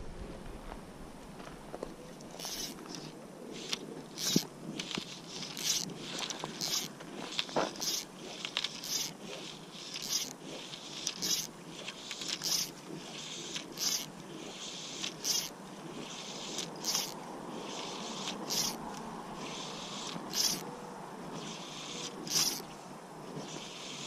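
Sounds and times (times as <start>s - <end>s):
fly line zipping through guides: 2.3s - 20.7s, 21.3s - 22.7s.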